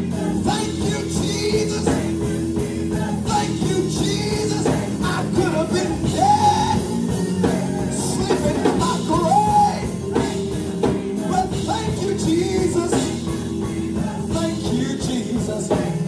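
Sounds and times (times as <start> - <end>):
gospel choir with band: 0.0 - 16.0.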